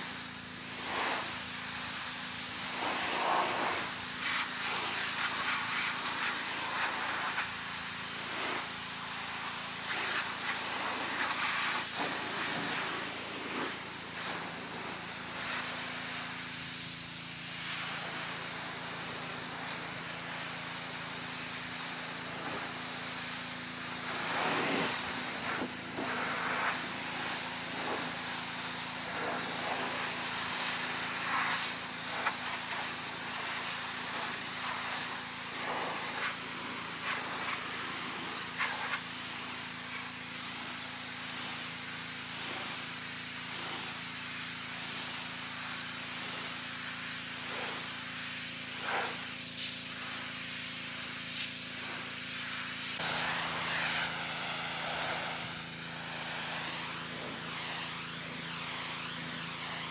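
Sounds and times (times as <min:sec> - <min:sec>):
pressure washer spraying metal: 0:00.0 - 0:59.9.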